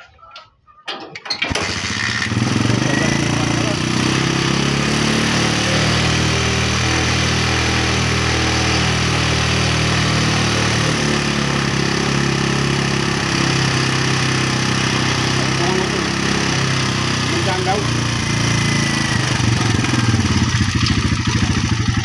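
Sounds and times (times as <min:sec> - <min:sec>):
motorcycle engine idling: 0:01.7 - 0:22.0.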